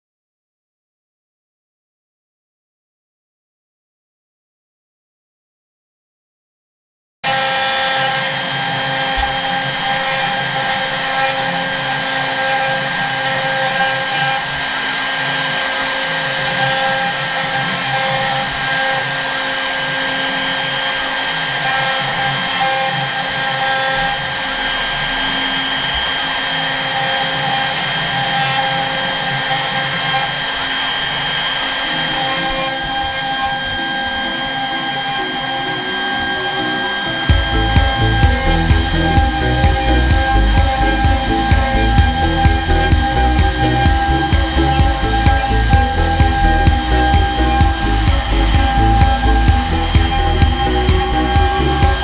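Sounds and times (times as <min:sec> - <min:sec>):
router spindle whine: 0:07.2 - 0:52.0
hiss of cutting wood: 0:07.3 - 0:52.0.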